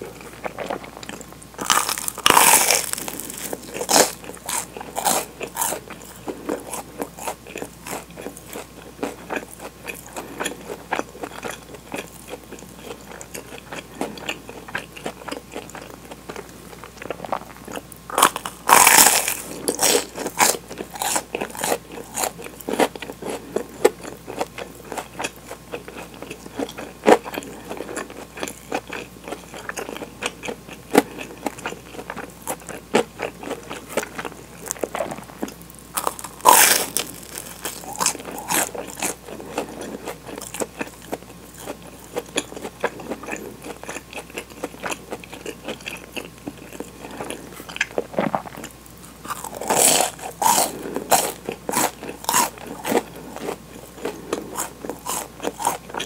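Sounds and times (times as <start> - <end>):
chewing crunchy bread: 0.0 - 56.0.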